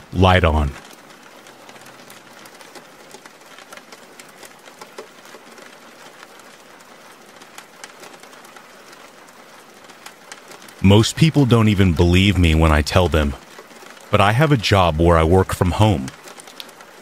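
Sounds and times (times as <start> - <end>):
steady hiss with crackles: 0.0 - 17.0.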